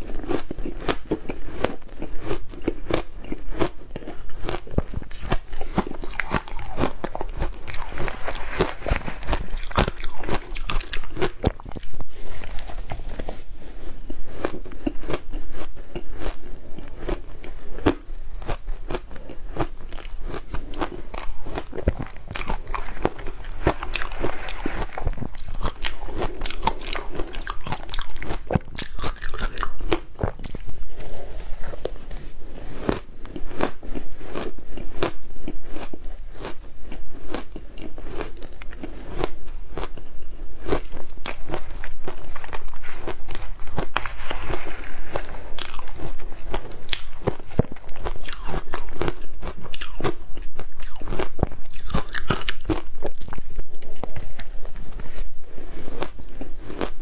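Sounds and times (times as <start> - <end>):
crunching and chewing shaved ice: 0.0 - 57.0.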